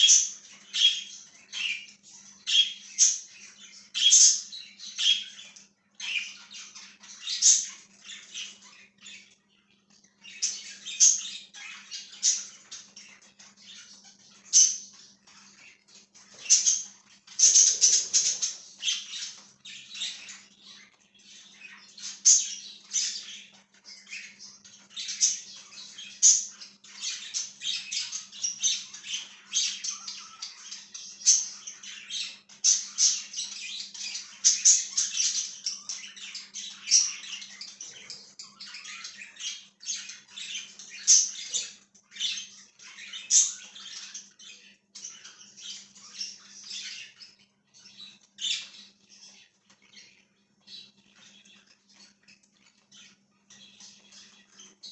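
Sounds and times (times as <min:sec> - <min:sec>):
budgies chirping and chattering: 0:00.0 - 0:54.9.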